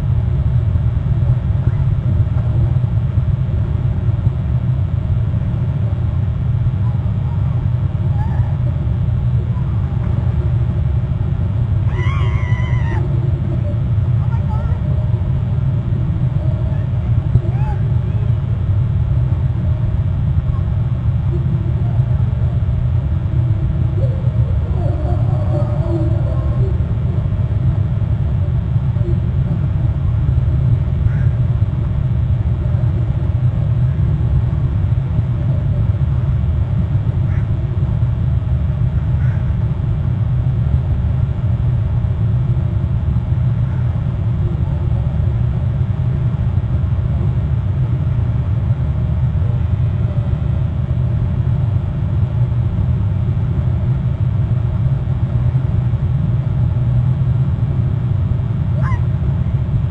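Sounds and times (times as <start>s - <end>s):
low rumble: 0.0s - 59.9s.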